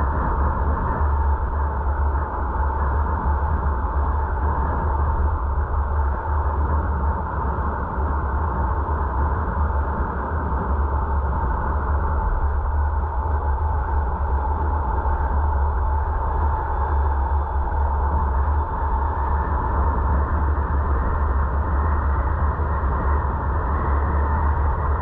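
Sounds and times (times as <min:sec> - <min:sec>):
car road and wind noise: 0:00.0 - 0:25.0.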